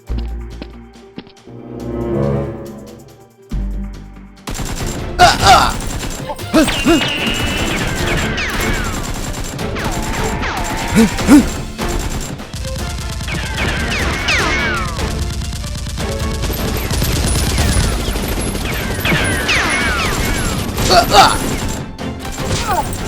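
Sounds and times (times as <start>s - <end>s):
background music: 0.0s - 23.0s
rapid gunfire: 4.5s - 23.0s.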